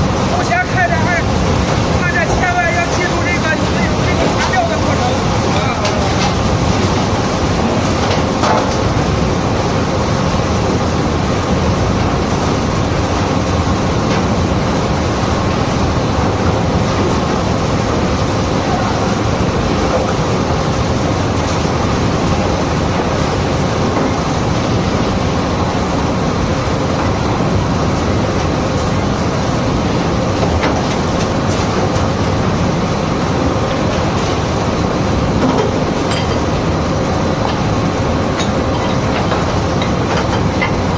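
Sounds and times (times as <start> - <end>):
waste sorting machine churning: 0.0 - 40.9.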